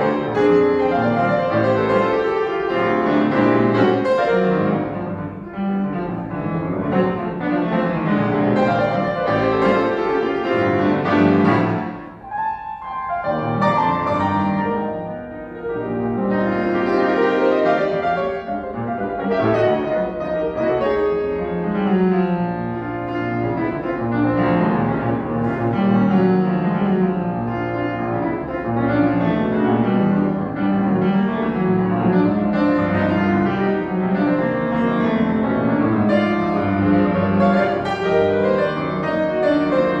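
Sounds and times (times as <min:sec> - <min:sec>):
grand piano classical solo: 0:00.0 - 0:40.0.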